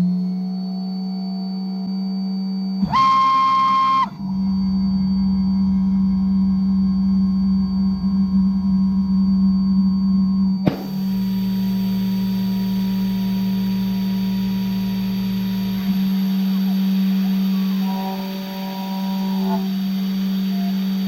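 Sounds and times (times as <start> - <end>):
higher-pitched whine: 0.0 - 21.0
milling machine motor whine: 0.0 - 21.0.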